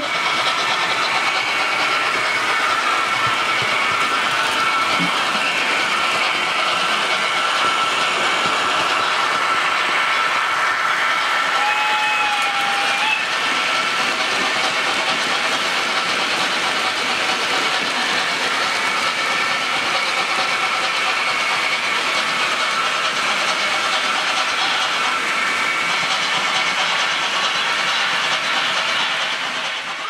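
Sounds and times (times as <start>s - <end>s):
train running hiss and clatter: 0.0s - 30.0s.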